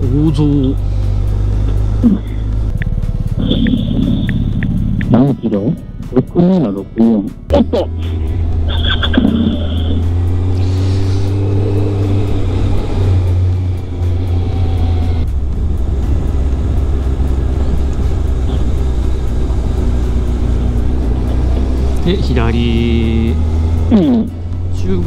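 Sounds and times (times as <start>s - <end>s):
car engine and road drone: 0.0s - 25.0s.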